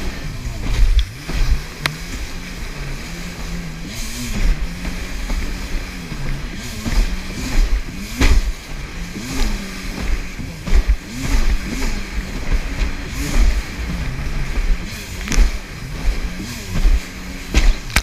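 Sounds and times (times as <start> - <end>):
hull slapping water: 0.0 - 18.0
jet ski engine running: 0.0 - 18.0.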